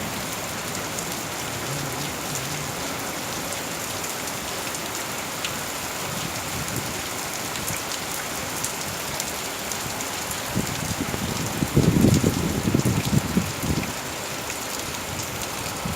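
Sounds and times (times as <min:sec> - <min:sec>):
rain falling: 0:00.0 - 0:15.9
raindrops ticking on surfaces: 0:00.0 - 0:15.9.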